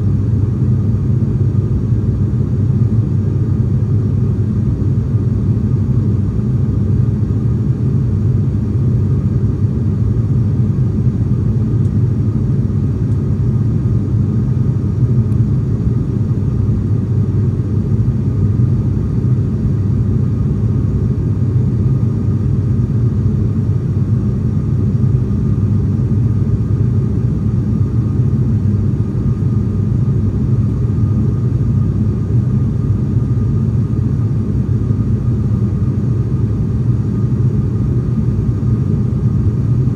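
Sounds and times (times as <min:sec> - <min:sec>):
faint steady whine: 0:00.0 - 0:39.9
turboprop engines droning: 0:00.0 - 0:39.9.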